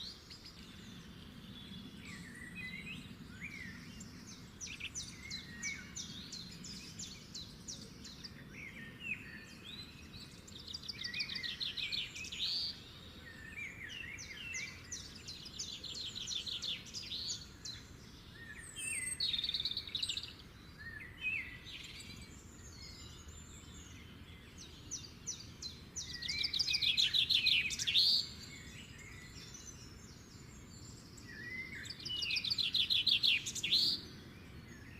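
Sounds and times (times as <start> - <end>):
songbirds trilling and chirping: 0.0 - 34.9.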